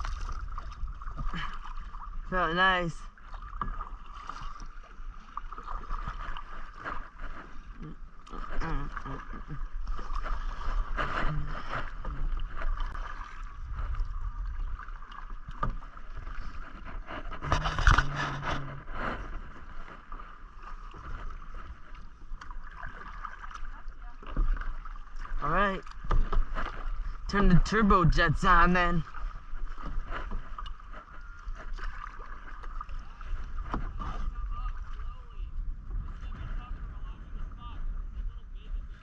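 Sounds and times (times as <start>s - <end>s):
paddle splashing in water: 0.0s - 37.7s.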